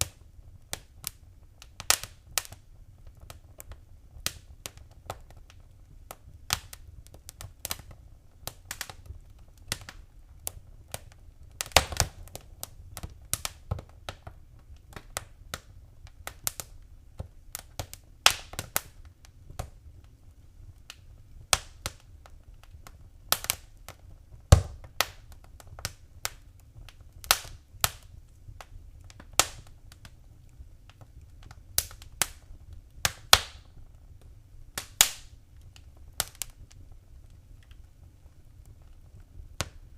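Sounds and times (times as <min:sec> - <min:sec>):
faint low rumble: 0:00.0 - 0:39.9
wood fire crackling: 0:00.0 - 0:39.9.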